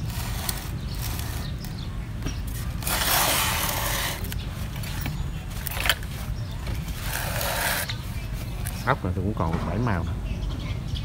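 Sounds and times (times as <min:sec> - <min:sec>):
harness scraping rustle: 0:00.0 - 0:08.9.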